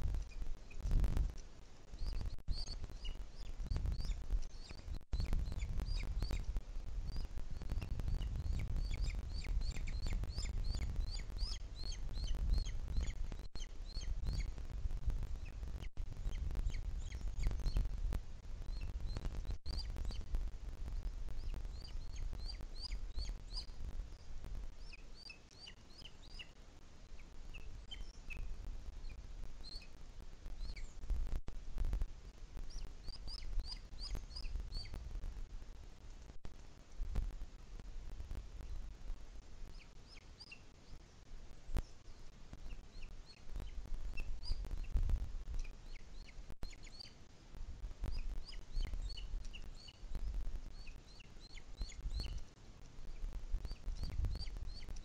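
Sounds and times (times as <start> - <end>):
birds chirping: 0.0 - 18.0, 18.6 - 31.2, 32.6 - 35.0, 39.6 - 47.3, 48.0 - 55.0.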